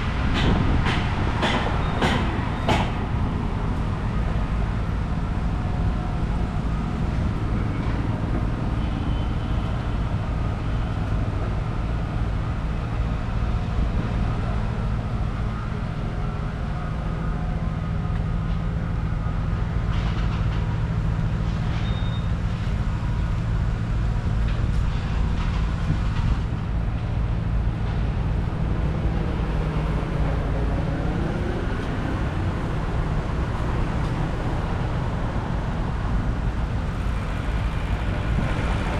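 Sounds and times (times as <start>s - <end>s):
vehicle engine rumble: 0.0s - 38.9s.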